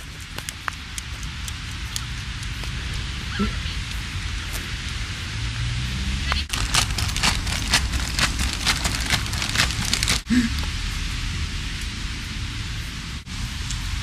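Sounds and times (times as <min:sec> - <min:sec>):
rain falling: 0:00.0 - 0:05.6, 0:06.5 - 0:14.0.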